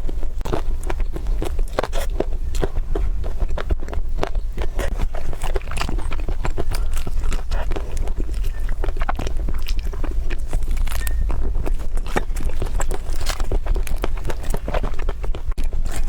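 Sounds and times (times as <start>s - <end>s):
person biting and chewing food: 0.0s - 16.0s
steady low hum: 0.0s - 16.0s.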